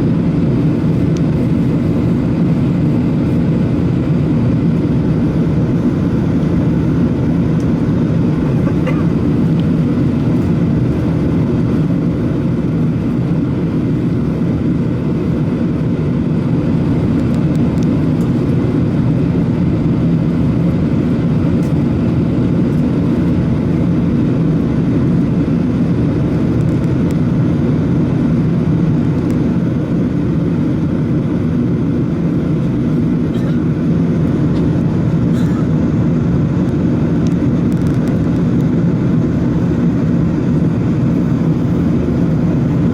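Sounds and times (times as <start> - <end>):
aircraft cabin engine drone: 0.0 - 42.9.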